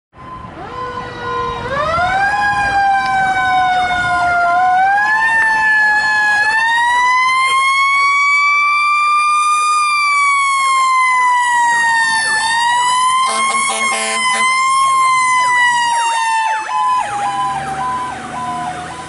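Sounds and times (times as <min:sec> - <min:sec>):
fire truck siren wailing: 0:00.2 - 0:19.0.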